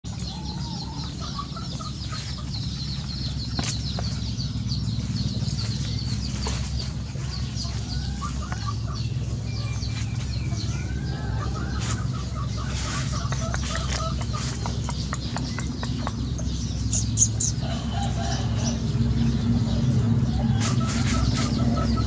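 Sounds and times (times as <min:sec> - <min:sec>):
chickens clucking: 0:00.1 - 0:22.0
low hum: 0:00.1 - 0:22.0.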